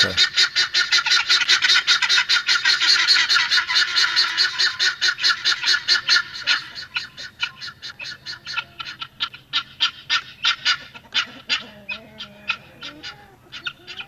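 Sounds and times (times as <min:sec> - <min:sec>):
guineafowl calling: 0:00.0 - 0:14.0.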